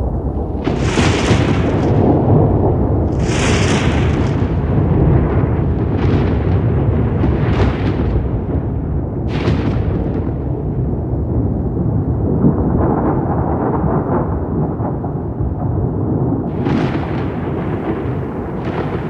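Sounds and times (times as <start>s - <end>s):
rolling thunder: 0.0s - 19.0s
thunder crack: 0.0s - 19.0s.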